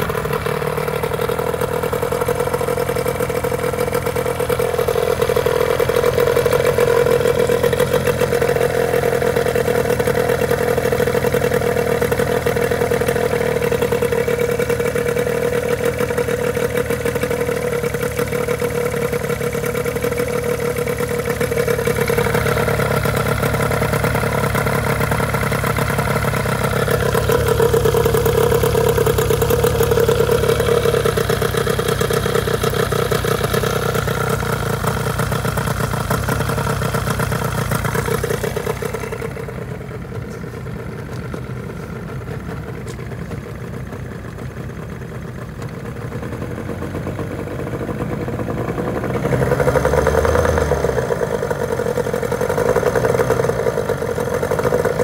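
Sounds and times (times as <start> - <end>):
outboard motor idling: 0.0 - 55.0.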